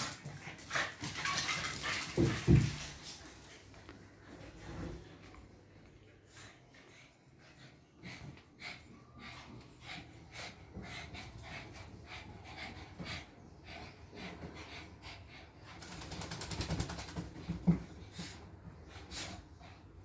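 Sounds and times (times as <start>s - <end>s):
dogs sniffing and panting: 0.0s - 20.0s.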